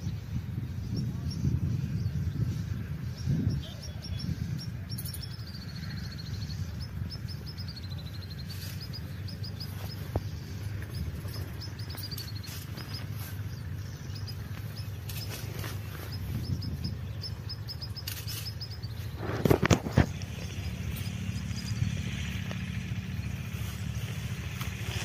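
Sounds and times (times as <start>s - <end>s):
small birds chirping: 0.0s - 25.0s
steady low rumble: 0.0s - 25.0s.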